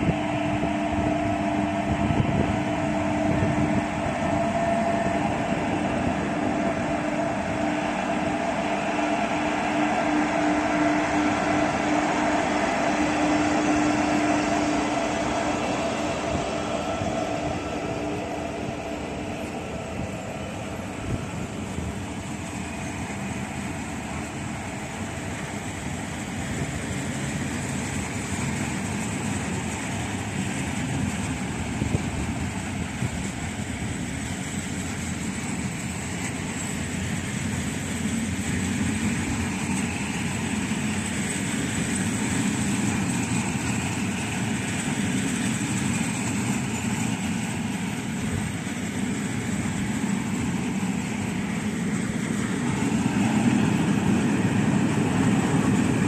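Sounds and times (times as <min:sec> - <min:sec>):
thin high whine: 0:00.0 - 0:56.0
train rolling by: 0:00.0 - 0:56.0.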